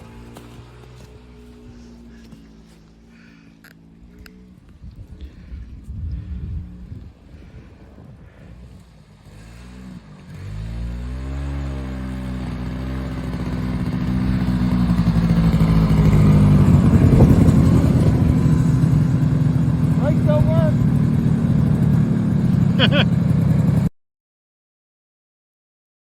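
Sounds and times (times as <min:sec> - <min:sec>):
snowmobile engine revving: 0:00.0 - 0:05.4, 0:06.2 - 0:23.9.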